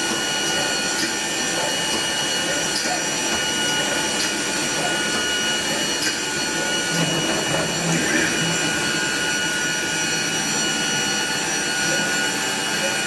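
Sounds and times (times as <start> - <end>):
router machine whining: 0.0 - 13.0.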